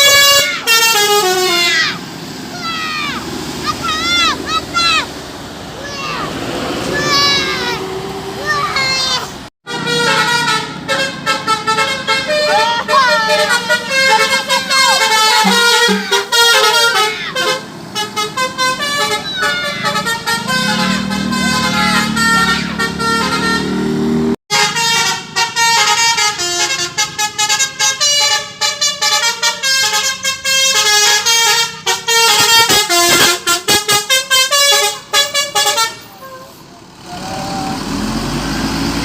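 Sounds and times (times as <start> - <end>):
multi-tone bus horn melody: 0.0 - 2.0, 6.9 - 38.2.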